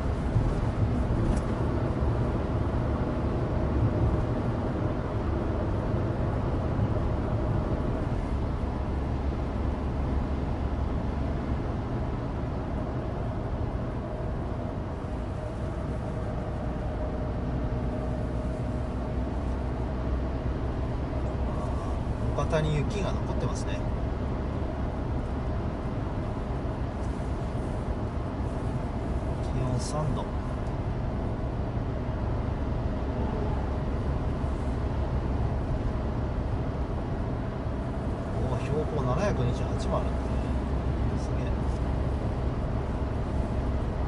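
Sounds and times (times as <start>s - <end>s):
car engine running steadily: 0.0s - 44.0s
road and tyre rumble: 0.0s - 44.0s.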